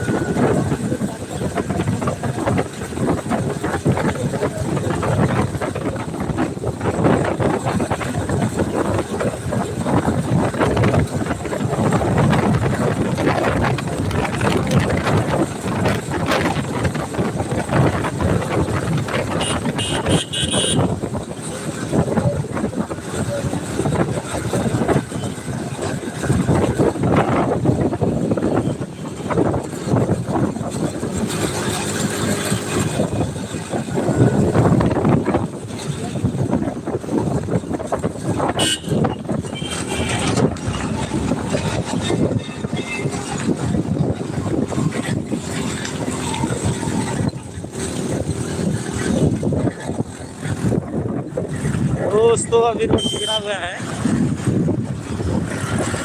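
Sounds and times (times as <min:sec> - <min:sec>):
road vehicle rumble: 0:00.0 - 0:56.0.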